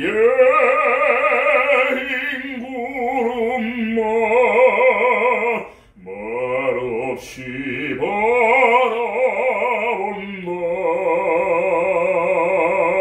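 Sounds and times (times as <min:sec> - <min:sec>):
man singing classical song: 0:00.0 - 0:13.0.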